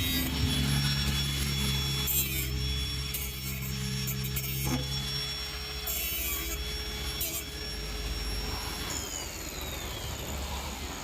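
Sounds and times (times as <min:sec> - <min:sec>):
grinding bursts: 0:00.0 - 0:09.1
power tool whining: 0:00.0 - 0:11.0.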